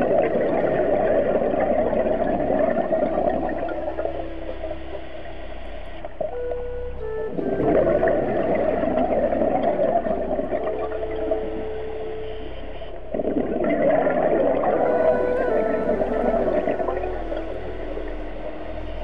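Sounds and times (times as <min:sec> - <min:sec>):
exhaled bubbles underwater: 0:00.0 - 0:19.0.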